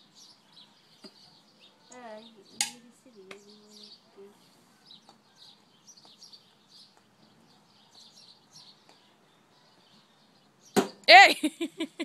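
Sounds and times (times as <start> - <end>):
faint bird chirps: 0.0 - 11.1.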